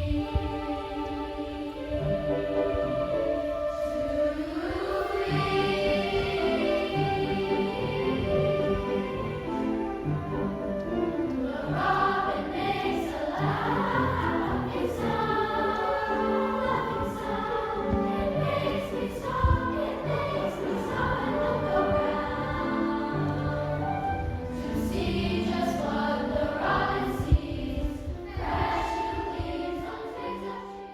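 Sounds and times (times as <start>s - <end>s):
flute: 0.0s - 30.9s
mixed chorus singing: 0.0s - 30.9s
piano: 0.0s - 30.9s.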